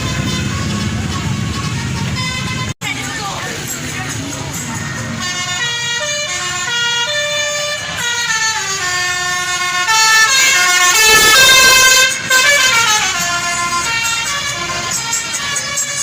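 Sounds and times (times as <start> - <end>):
multi-tone bus air horn tune: 0.0 - 2.8, 4.9 - 16.0.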